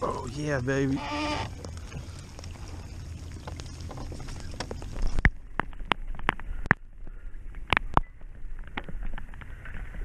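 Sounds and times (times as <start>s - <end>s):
wind and rain on microphone: 0.0s - 10.0s.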